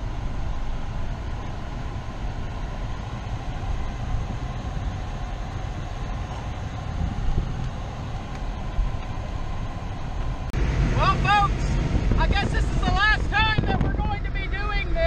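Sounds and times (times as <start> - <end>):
car engine rumble: 0.0 - 15.0
tyres rolling on road: 0.0 - 15.0.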